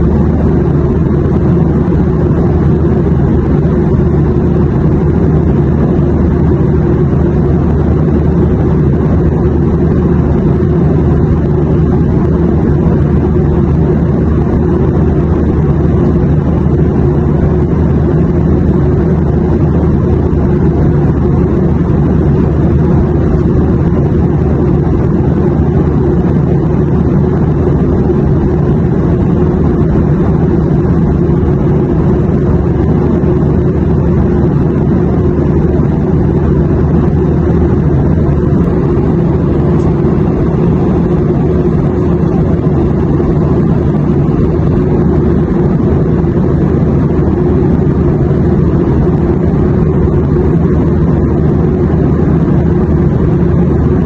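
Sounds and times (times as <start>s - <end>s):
low engine drone: 0.0s - 54.0s
rush of air: 0.0s - 54.0s.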